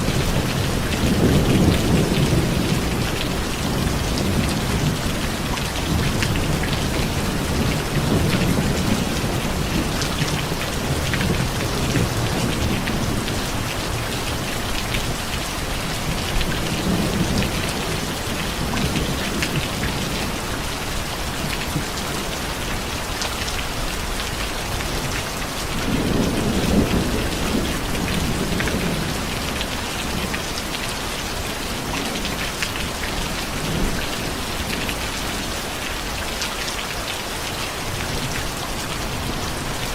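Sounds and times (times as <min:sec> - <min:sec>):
low rolling thunder: 0:00.0 - 0:22.5, 0:24.6 - 0:35.6
steady rain falling: 0:00.0 - 0:39.9.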